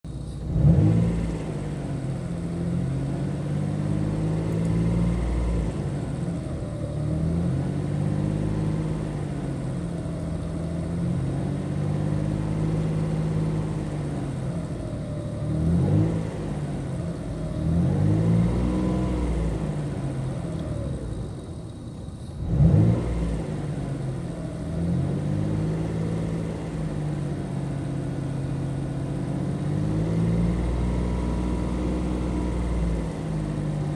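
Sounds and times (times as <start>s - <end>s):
car engine revving: 0.2s - 33.9s.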